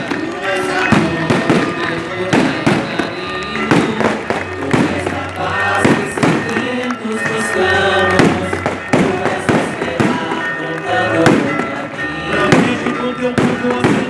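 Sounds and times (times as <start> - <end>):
fireworks bangs and cracks: 0.0 - 14.0
music playing: 0.0 - 14.0.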